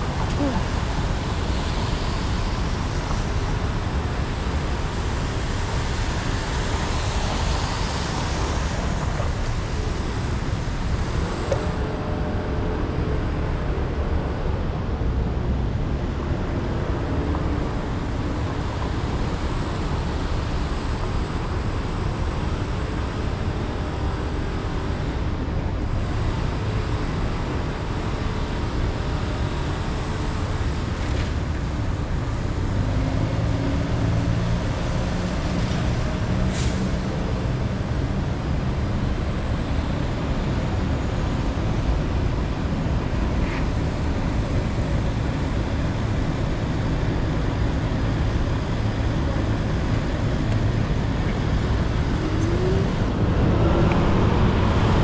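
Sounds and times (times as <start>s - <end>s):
road and wind noise: 0.0s - 55.0s
vehicle engines running: 0.0s - 55.0s.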